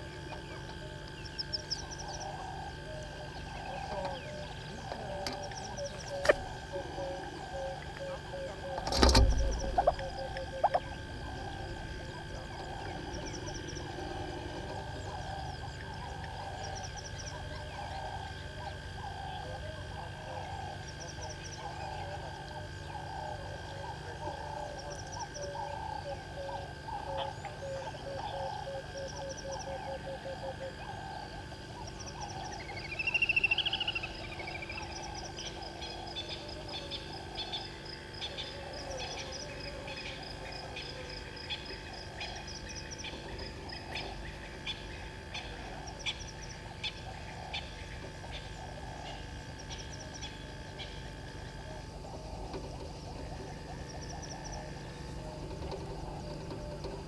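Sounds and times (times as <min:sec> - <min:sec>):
birds calling: 0:00.0 - 0:57.0
frogs calling: 0:00.0 - 0:57.0
insect drone: 0:00.0 - 0:57.0.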